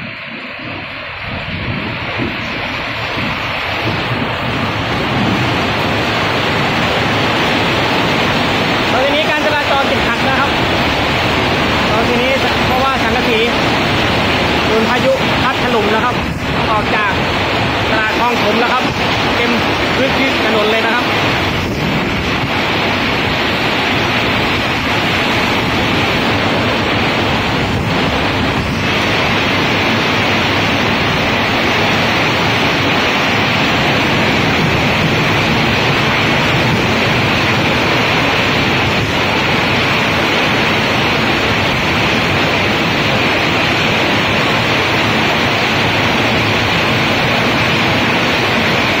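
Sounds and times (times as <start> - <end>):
torrential rain pouring: 0.0 - 49.0
wind buffeting microphone: 0.0 - 49.0.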